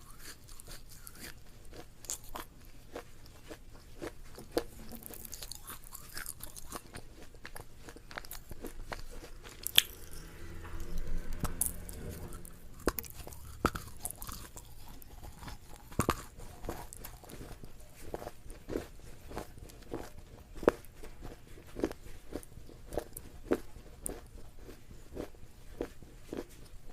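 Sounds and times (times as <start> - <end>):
chewing crunchy food: 0.0 - 26.9.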